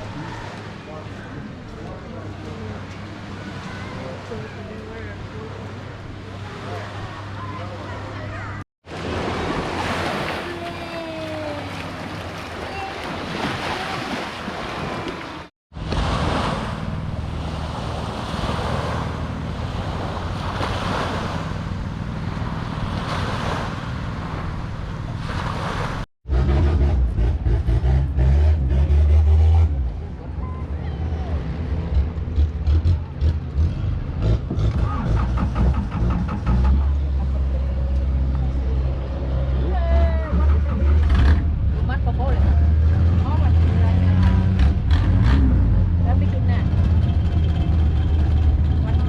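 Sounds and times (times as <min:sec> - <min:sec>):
waves: 0:00.0 - 0:26.1, 0:29.0 - 0:32.5, 0:33.8 - 0:49.0
boat engine drone: 0:00.0 - 0:49.0
wind: 0:00.0 - 0:49.0.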